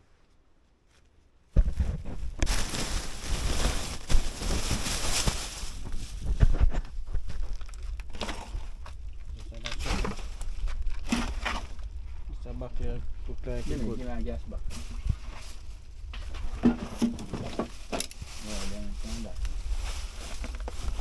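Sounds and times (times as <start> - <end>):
clutter rustling and knocking: 1.5 - 21.0
low rumble on microphone: 1.6 - 21.0.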